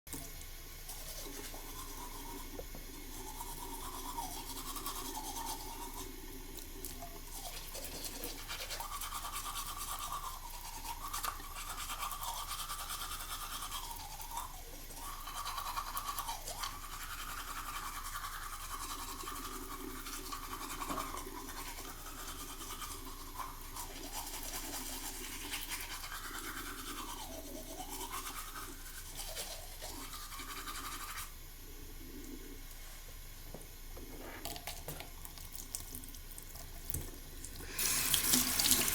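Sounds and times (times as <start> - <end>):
toothbrush scrubbing teeth: 0.1 - 32.9.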